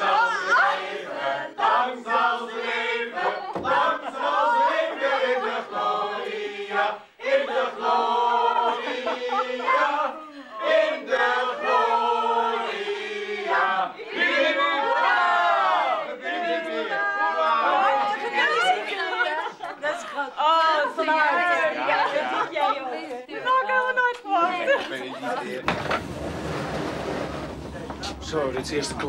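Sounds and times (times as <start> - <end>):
group singing a celebration song: 0.0 - 29.0.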